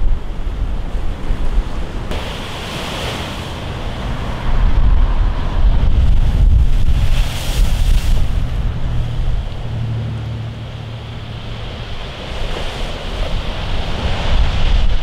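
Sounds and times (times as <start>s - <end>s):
wind buffeting microphone: 0.0s - 15.0s
waves crashing against seawall: 0.2s - 15.0s.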